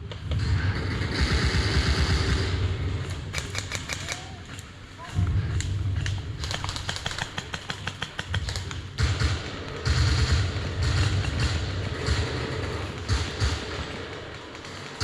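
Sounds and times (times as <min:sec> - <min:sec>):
airsoft guns firing clicks: 0:00.0 - 0:15.0.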